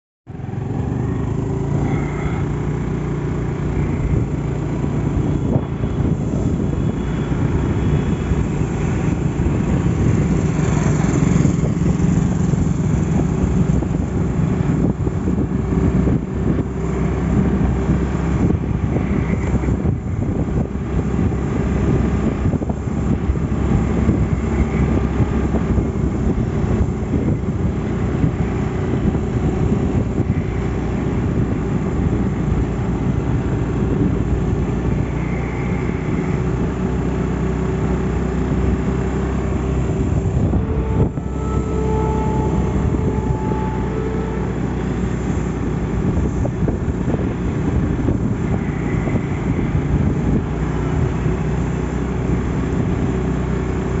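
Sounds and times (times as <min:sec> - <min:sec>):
motorcycle engine droning: 0:00.3 - 0:54.0.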